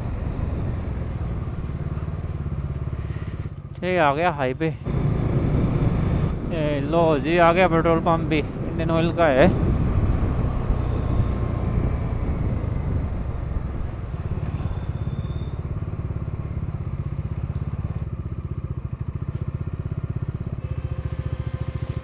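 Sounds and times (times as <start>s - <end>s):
motorcycle engine idling: 0.0s - 7.8s, 10.8s - 22.0s.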